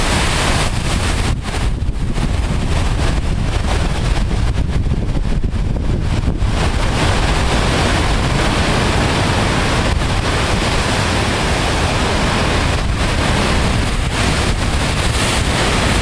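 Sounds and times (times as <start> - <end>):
surf breaking on rocks: 0.0 - 16.0
wind buffeting microphone: 0.0 - 16.0.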